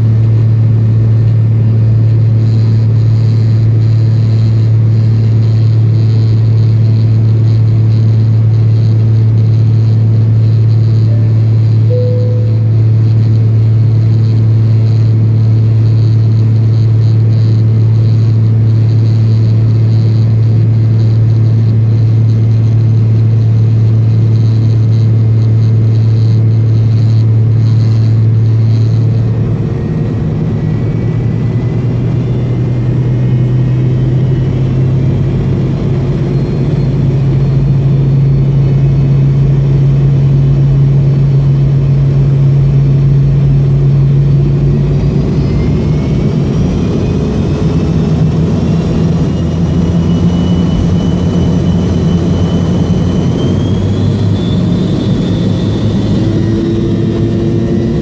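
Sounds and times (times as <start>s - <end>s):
rising engine whine: 0.0s - 18.1s, 26.2s - 58.0s
jet engine cabin drone: 0.0s - 58.0s.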